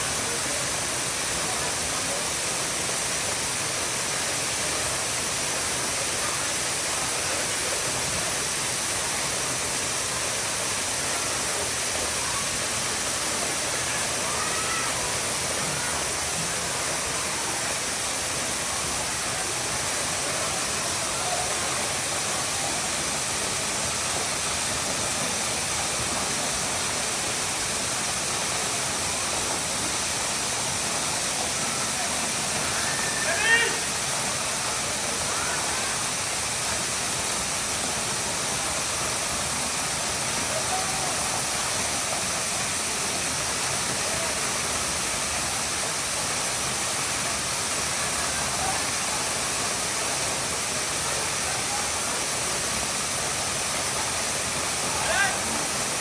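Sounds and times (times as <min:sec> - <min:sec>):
waterfall pouring: 0:00.0 - 0:56.0.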